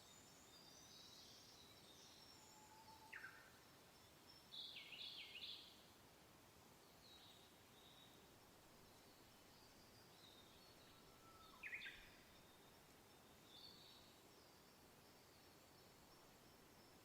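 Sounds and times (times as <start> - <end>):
soft wind: 0.0 - 17.0.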